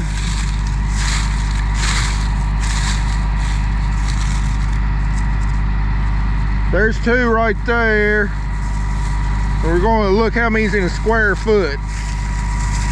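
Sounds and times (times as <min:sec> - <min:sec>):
diesel engine running: 0:00.0 - 0:12.9
steps through dry corn stalks: 0:00.0 - 0:12.9.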